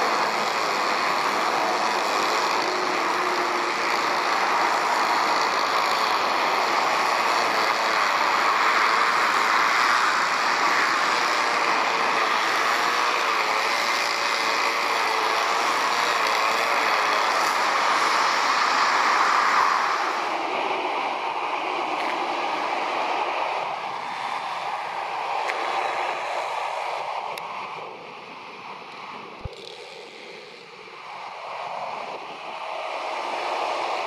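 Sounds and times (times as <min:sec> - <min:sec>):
jet engines roaring: 0:00.0 - 0:34.0
motorway traffic hum: 0:00.0 - 0:34.0.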